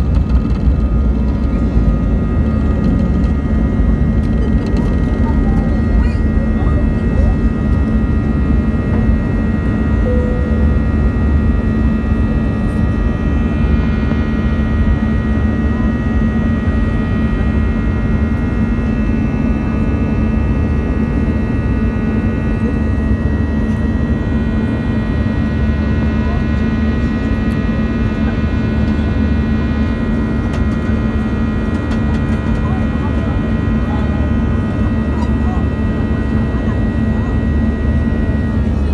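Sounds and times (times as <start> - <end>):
high whining fan tones: 0.0 - 38.9
jet engine roar in cabin: 0.0 - 38.9.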